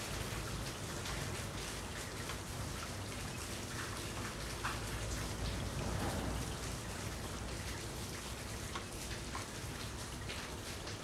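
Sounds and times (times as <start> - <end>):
raindrops striking close by: 0.0 - 11.0
steady rain falling: 0.0 - 11.0.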